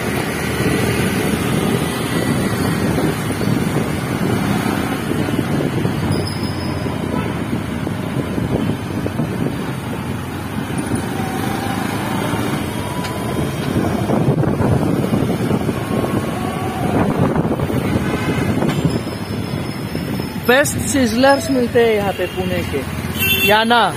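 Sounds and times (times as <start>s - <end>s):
wind rushing over microphone: 0.0s - 21.7s
road traffic rumble: 0.0s - 23.9s.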